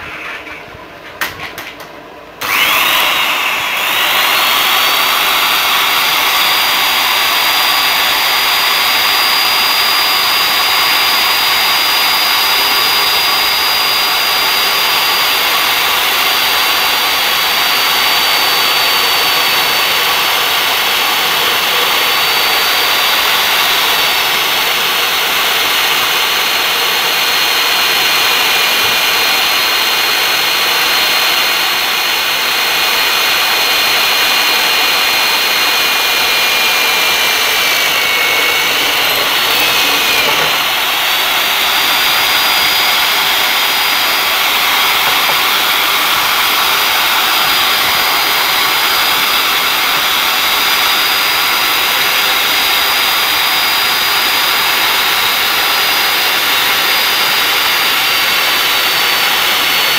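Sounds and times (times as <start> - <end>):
drill bit drilling into steel: 2.4 - 59.9
electric drill whining: 2.4 - 59.9.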